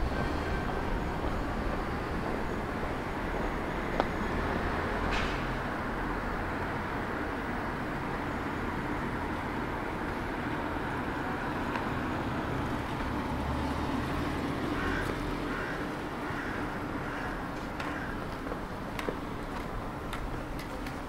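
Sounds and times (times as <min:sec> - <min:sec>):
passing vehicle rumble: 0:00.0 - 0:21.0
street background: 0:00.0 - 0:21.0.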